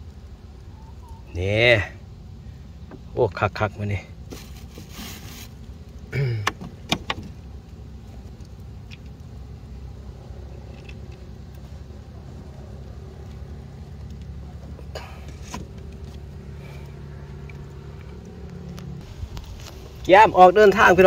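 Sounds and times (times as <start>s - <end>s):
small boat engine humming: 0.0s - 21.0s.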